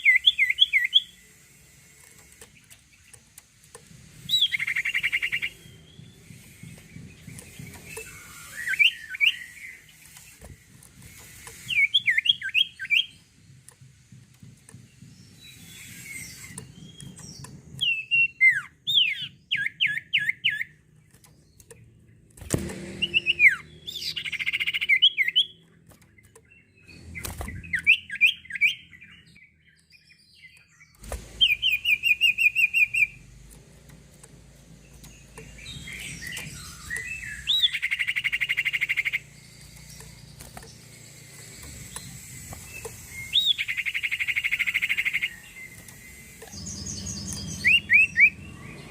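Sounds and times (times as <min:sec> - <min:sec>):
songbird singing falling chirps: 0:00.0 - 0:48.9.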